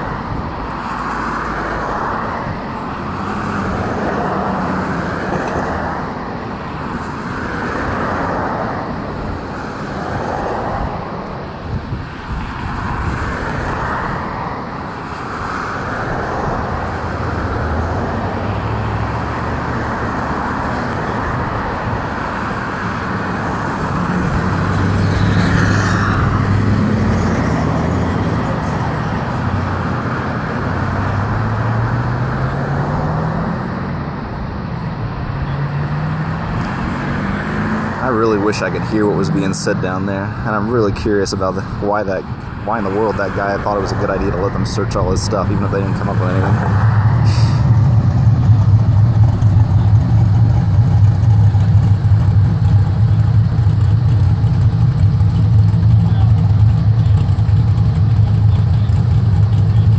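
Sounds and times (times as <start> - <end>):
cars passing: 0.0 - 59.9
vehicle engine low hum: 0.0 - 59.9.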